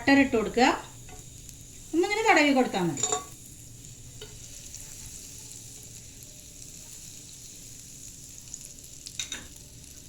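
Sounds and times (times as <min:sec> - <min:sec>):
butter sizzling on a pan: 0:00.0 - 0:10.0.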